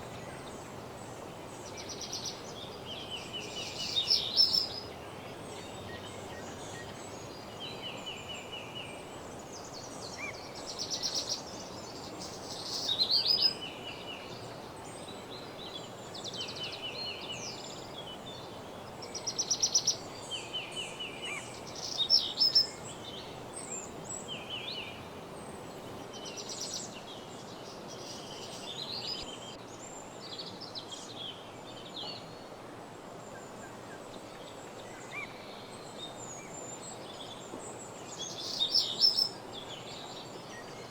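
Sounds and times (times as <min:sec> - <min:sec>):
songbirds singing: 0:00.0 - 0:32.6, 0:33.2 - 0:40.9
steady background hiss: 0:00.0 - 0:40.9.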